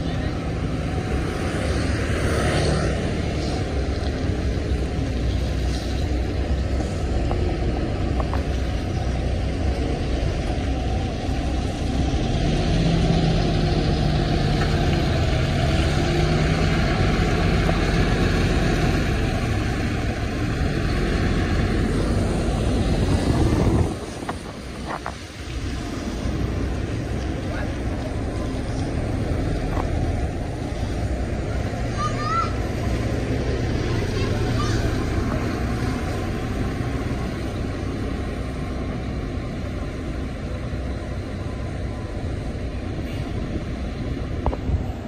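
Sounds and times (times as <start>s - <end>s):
bus diesel engine passing: 0.0s - 45.0s.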